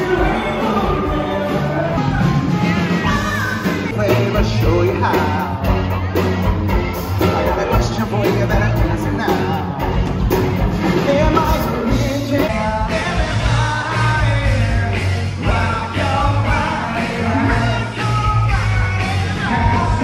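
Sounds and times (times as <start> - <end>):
man singing: 0.0 - 2.3, 3.1 - 20.0
live rock band playing: 0.0 - 20.0.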